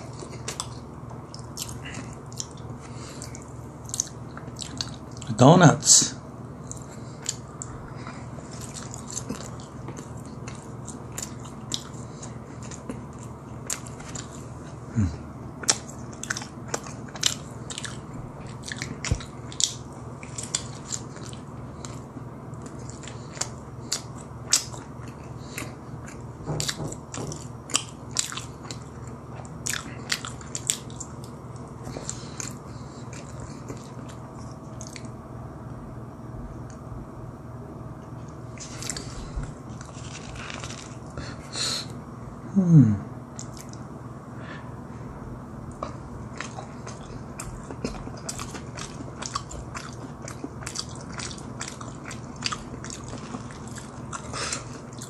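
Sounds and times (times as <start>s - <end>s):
person chewing and crunching food: 0.0s - 5.5s, 6.5s - 35.4s, 38.0s - 42.0s, 43.3s - 43.9s, 45.6s - 55.0s
steady low hum: 0.0s - 55.0s.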